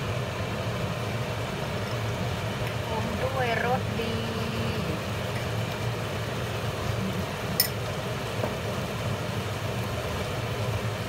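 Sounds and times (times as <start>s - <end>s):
kitchen hum: 0.0s - 11.0s.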